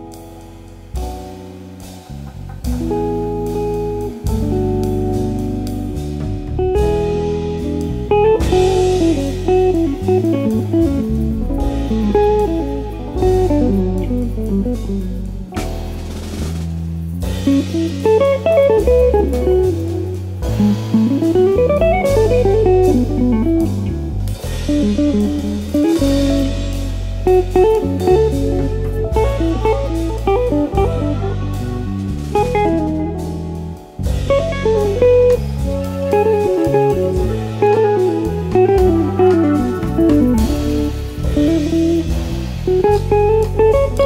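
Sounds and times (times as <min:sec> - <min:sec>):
drum kit: 0:00.0 - 0:44.0
electric bass: 0:00.0 - 0:44.0
electric guitar lead: 0:00.0 - 0:44.0.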